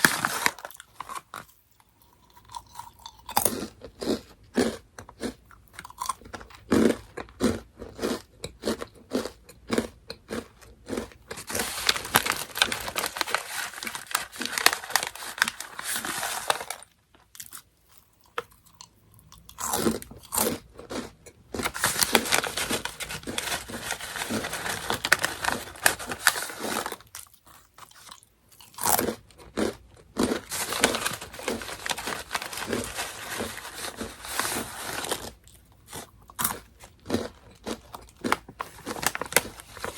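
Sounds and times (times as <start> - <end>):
chewing crunchy snacks: 0.0 - 39.9.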